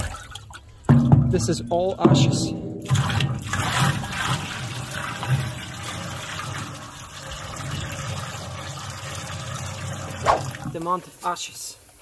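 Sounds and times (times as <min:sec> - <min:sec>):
liquid pouring into metal tub: 0:00.0 - 0:10.8.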